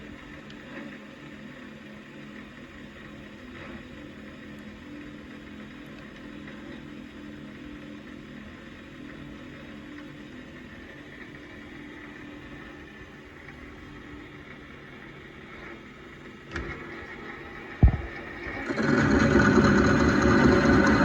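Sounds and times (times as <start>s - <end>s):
metal lathe motor humming: 2.3s - 21.0s.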